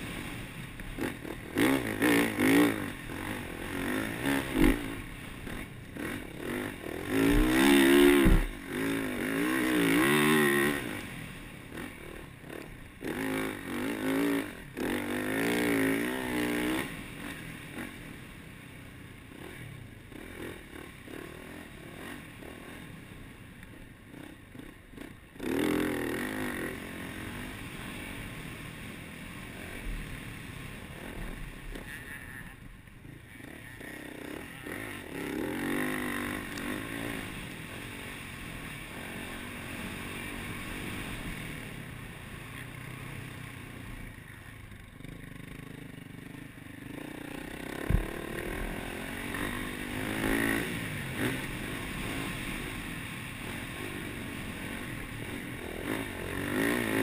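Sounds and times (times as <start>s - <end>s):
dirt bike engine revving: 0.0s - 18.3s, 19.2s - 23.3s, 24.1s - 57.0s
wind and dirt noise: 0.0s - 57.0s.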